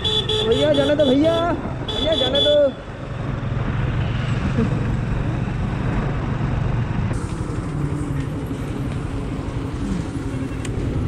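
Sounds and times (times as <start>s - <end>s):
road noise rushing: 0.0s - 11.0s.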